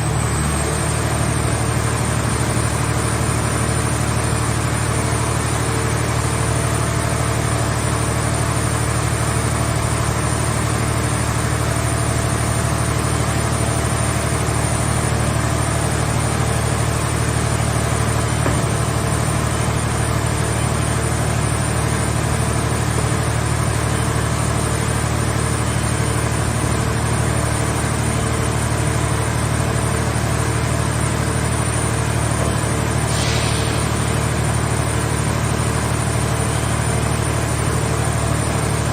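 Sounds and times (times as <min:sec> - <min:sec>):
engine and hydraulic unit running: 0:00.0 - 0:38.9.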